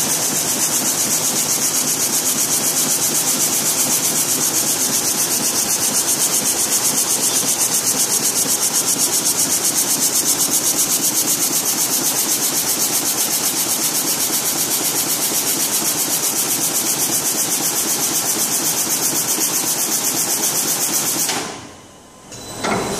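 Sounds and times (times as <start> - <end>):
weaving loom running: 0.0 - 21.3.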